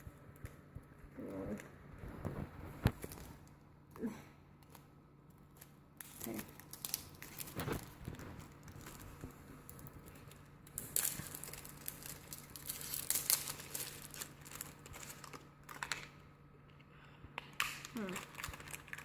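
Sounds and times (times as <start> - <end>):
plastic packaging crinkling: 1.2 - 3.6, 4.6 - 16.8, 17.4 - 19.0.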